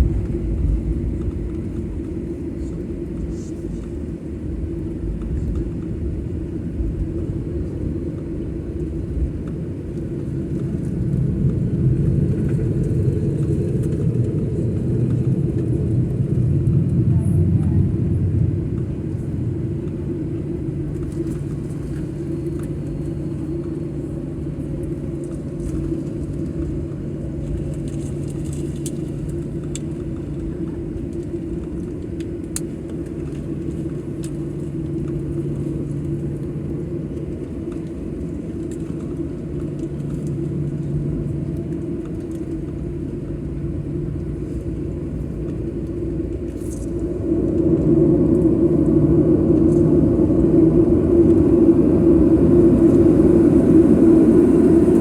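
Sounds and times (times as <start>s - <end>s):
jet engines hum inside cabin: 0.0s - 55.0s.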